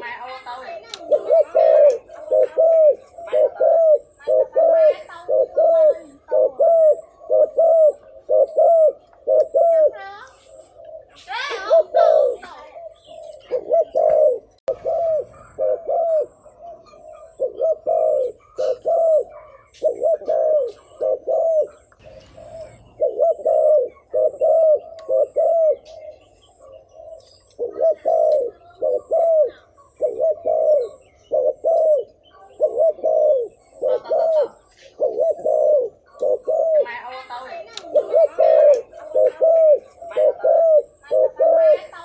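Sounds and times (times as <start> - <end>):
dove giving rapid low coos: 0.0 - 42.0.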